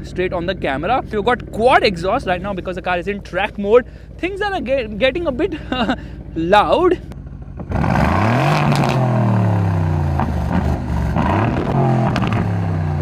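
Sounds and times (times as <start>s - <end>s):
car engine revving: 0.0s - 13.0s
exhaust cracks: 0.0s - 13.0s.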